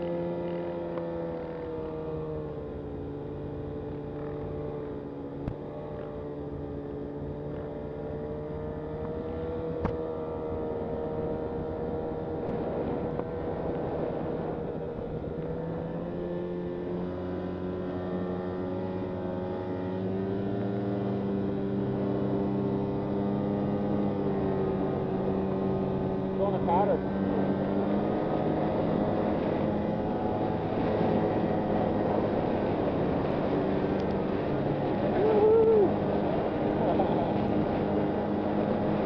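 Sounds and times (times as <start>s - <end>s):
snowmobile engine running: 0.0s - 39.0s.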